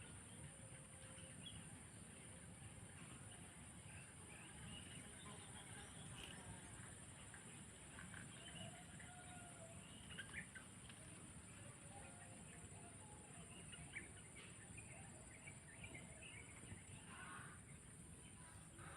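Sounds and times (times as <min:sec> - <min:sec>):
steady high-pitched hiss: 0:00.0 - 0:18.9.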